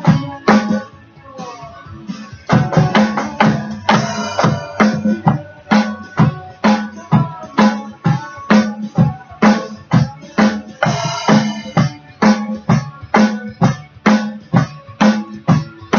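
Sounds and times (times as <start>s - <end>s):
drums hitting hard: 0.0s - 1.0s, 2.0s - 15.9s
rock music: 0.0s - 15.9s.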